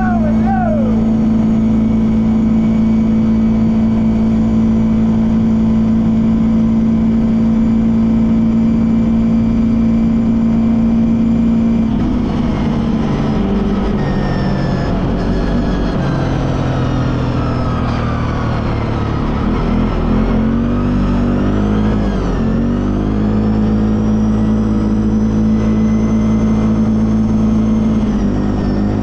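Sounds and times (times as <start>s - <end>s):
quad bike engine running: 0.0s - 29.0s.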